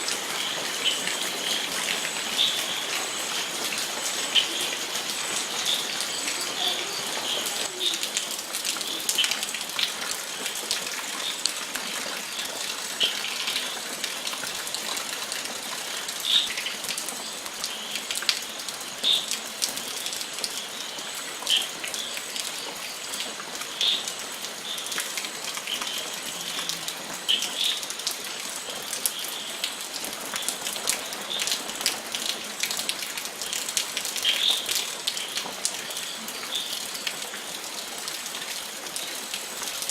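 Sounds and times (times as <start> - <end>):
rain pattering: 0.0 - 39.9
water drips: 0.0 - 39.9.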